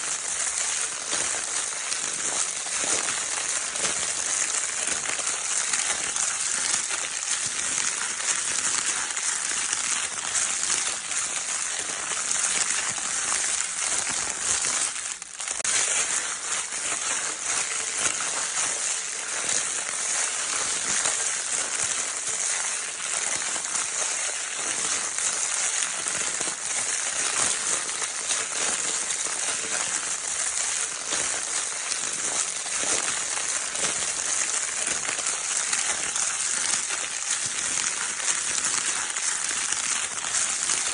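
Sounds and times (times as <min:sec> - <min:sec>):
crinkle paper toy crackling: 0:00.0 - 0:40.9.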